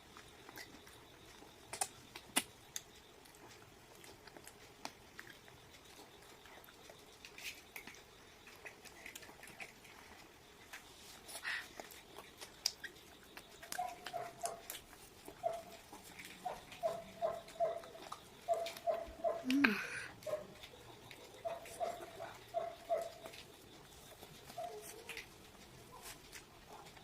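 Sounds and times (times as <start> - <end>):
chewing: 0.0 - 27.0.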